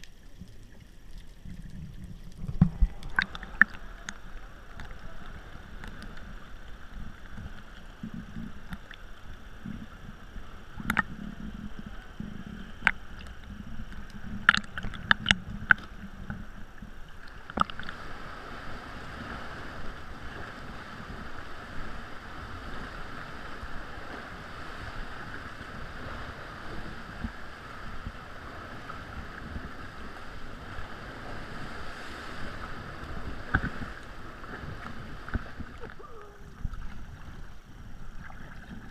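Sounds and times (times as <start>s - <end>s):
water sloshing along kayak hull: 0.0s - 38.9s.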